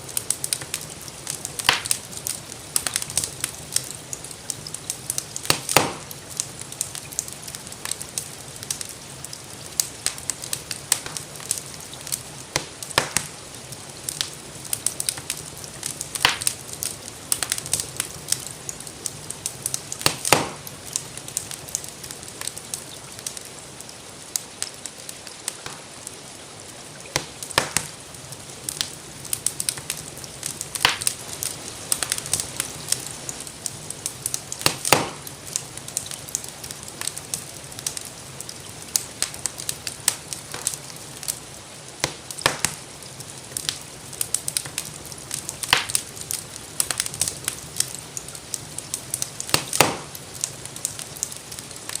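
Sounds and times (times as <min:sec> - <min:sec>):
gentle rain hiss: 0:00.0 - 0:52.0
wood fire crackling: 0:00.0 - 0:52.0.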